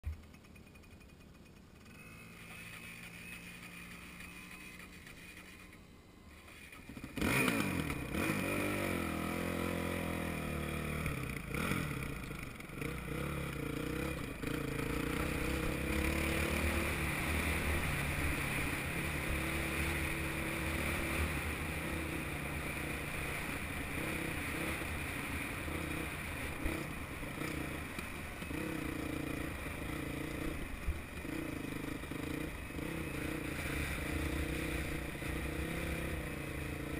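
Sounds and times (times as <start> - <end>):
gravel and rattle noise: 0.0 - 36.9
dirt bike engine revving: 6.6 - 36.9.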